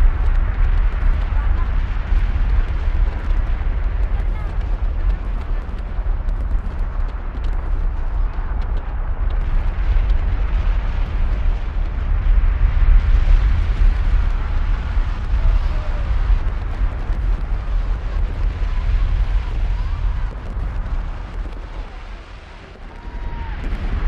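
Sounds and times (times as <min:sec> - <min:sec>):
fireworks crackling: 0:00.0 - 0:24.0
fireworks rumbling barrage: 0:00.0 - 0:24.0.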